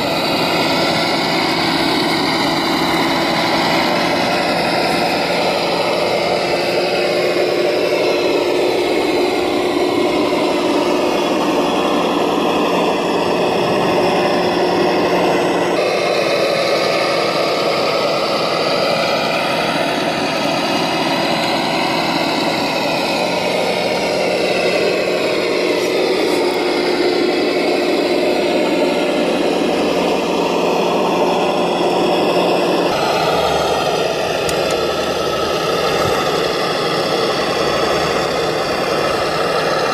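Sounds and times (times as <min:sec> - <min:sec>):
model tractor engine hum: 0:00.0 - 0:39.9.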